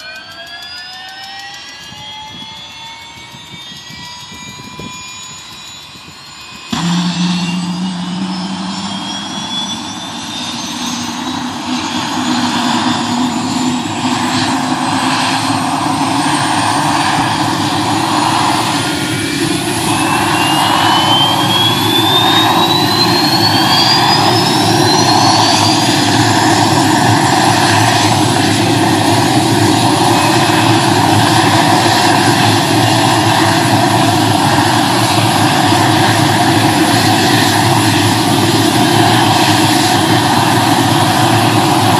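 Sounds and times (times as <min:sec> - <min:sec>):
helicopter turbine spooling up: 0:00.0 - 0:41.9.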